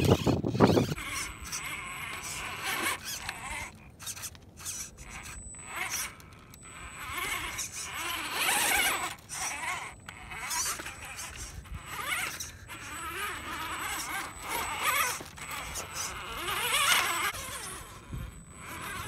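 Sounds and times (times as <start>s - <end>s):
rc car motor whining: 0.0s - 19.0s.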